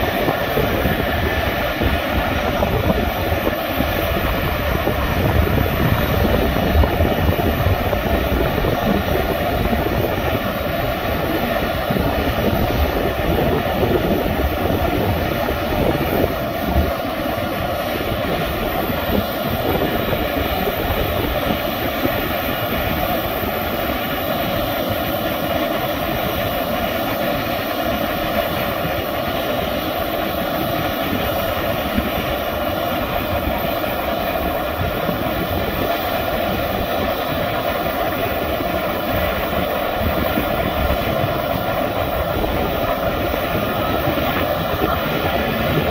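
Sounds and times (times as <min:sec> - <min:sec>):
jet engine whine: 0:00.0 - 0:45.9
low jet rumble: 0:00.0 - 0:45.9.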